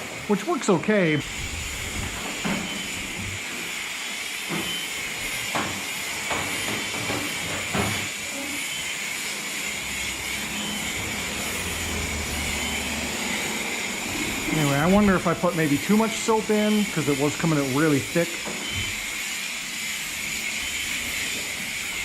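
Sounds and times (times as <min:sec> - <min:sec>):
spray wand hissing: 0:01.2 - 0:22.0.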